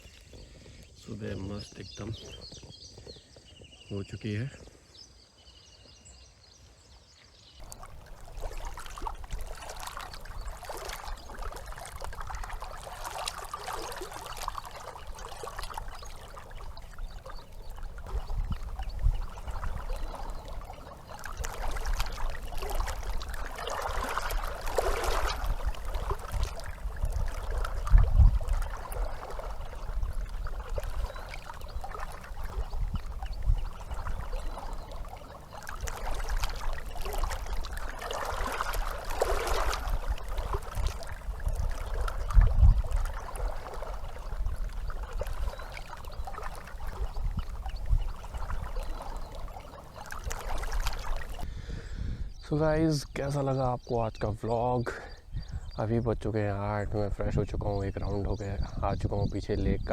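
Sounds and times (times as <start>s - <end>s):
water lapping and trickling: 0.0s - 59.9s
wind buffeting microphone: 7.6s - 59.9s.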